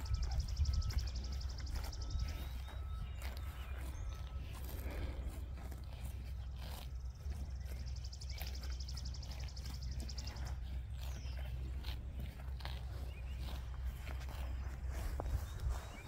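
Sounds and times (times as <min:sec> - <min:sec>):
cattle tearing grass and chewing: 0:00.0 - 0:16.0.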